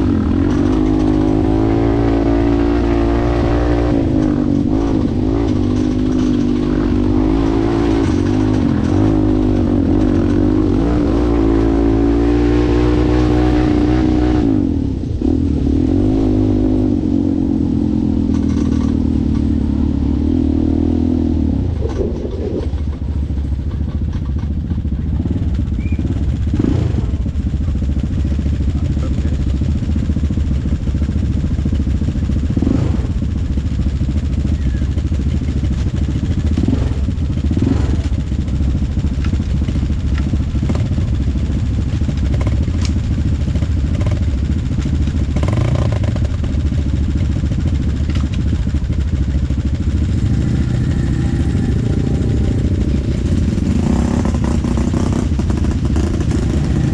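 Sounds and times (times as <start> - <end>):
knocks and rattles: 0.0 - 14.0, 18.2 - 19.9, 21.0 - 56.9
atv engine running: 0.0 - 56.9.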